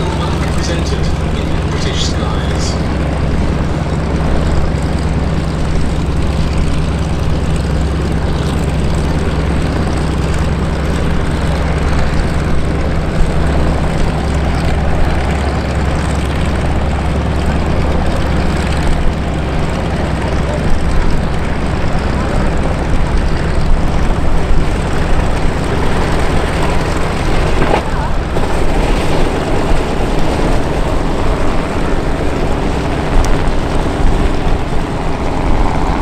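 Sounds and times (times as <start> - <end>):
helicopter flying low: 0.0 - 36.0.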